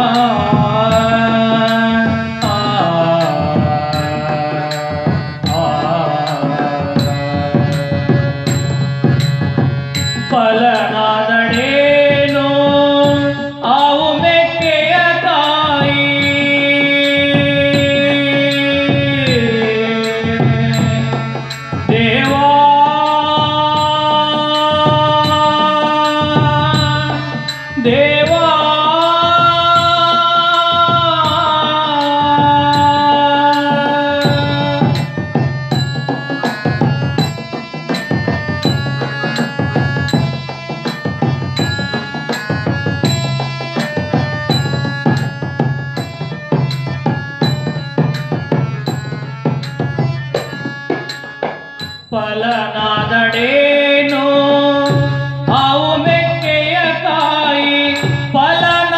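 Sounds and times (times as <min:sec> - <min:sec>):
hand cymbal struck in beat: 0:00.0 - 0:58.9
harmonium melody: 0:00.0 - 0:58.9.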